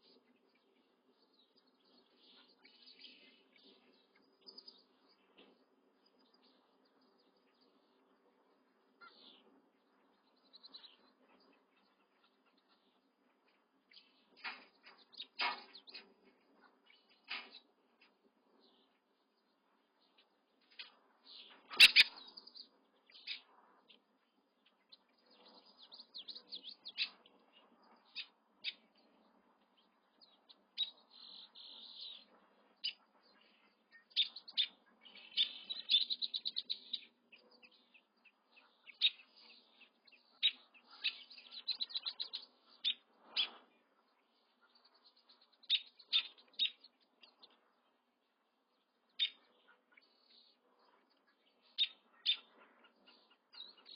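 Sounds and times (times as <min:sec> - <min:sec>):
chicks peeping and trilling: 0:00.0 - 0:53.9.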